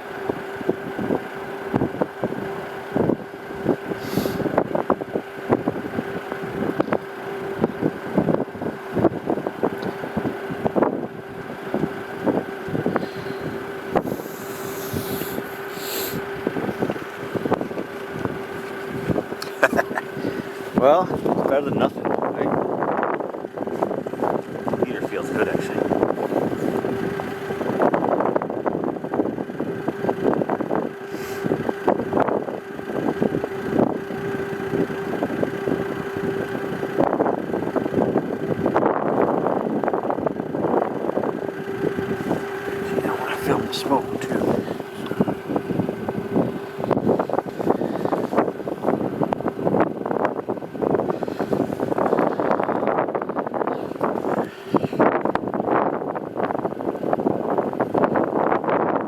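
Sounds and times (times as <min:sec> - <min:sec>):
steady mechanical hum: 0:00.0 - 0:59.0
wind buffeting microphone: 0:00.1 - 0:59.0.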